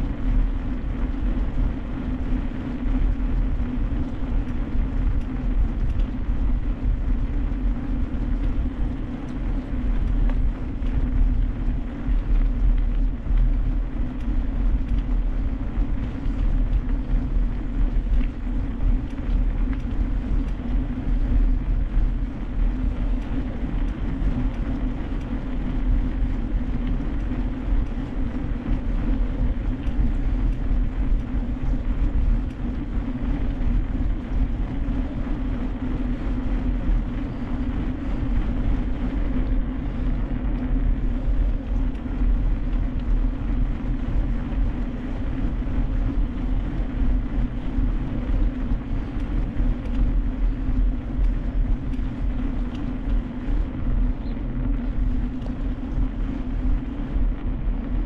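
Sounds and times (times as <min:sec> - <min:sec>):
bike tyres rolling over trail: 0:00.0 - 0:58.0
wind on microphone: 0:00.0 - 0:58.0.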